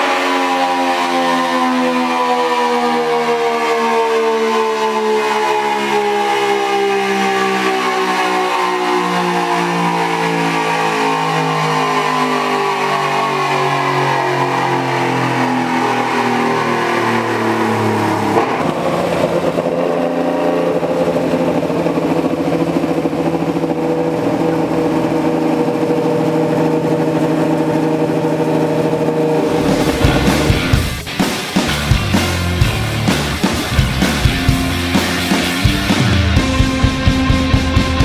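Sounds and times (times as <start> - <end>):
motorcycle engine: 0.0 - 38.0.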